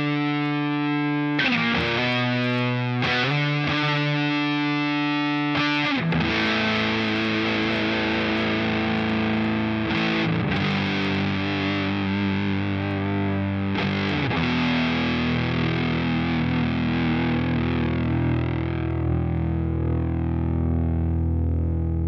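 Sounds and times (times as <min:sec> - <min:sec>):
fuzzed electric guitar notes: 0:00.0 - 0:22.0.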